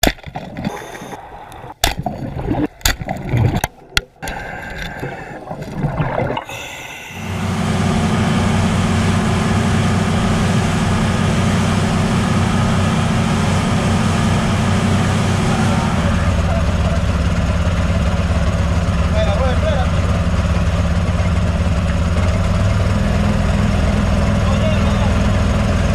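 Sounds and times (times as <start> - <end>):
rushing water: 0.0 - 21.5
boat motor running: 0.0 - 25.9.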